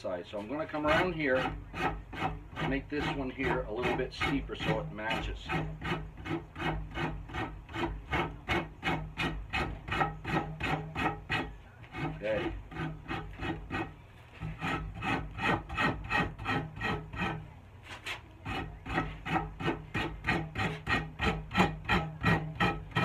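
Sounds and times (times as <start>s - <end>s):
rasp scraping wood: 0.4s - 23.0s.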